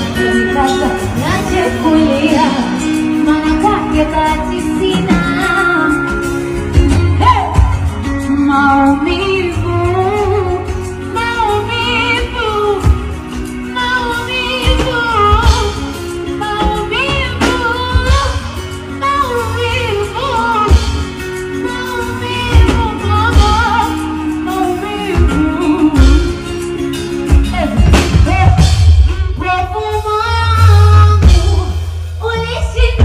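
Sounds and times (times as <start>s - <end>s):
woman singing pop song: 0.0s - 33.0s.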